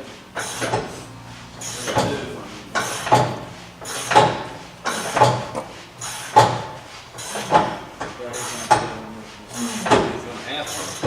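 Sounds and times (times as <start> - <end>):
sliding scraping strokes: 0.4 - 11.0.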